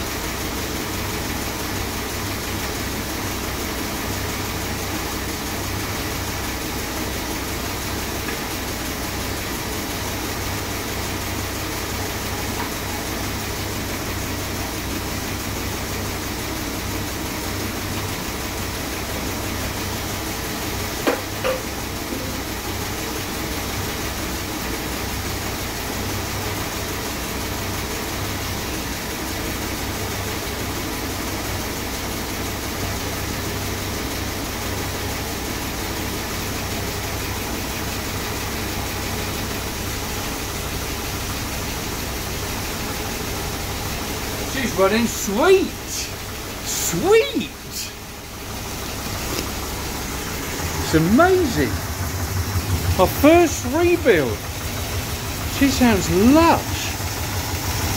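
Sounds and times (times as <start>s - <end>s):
car engine running: 0.0s - 57.9s.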